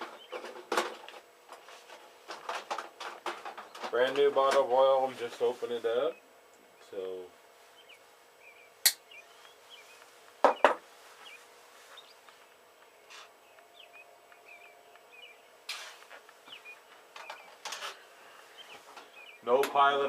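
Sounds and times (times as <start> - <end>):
small birds chirping: 0.0 - 2.0, 3.3 - 20.0.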